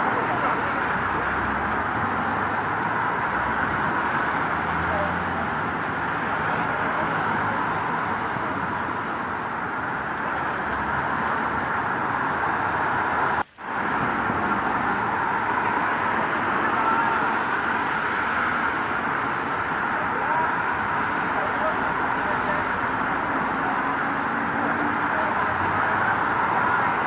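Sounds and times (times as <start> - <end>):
road traffic passing: 0.0 - 27.0
steady rain falling: 0.0 - 27.0.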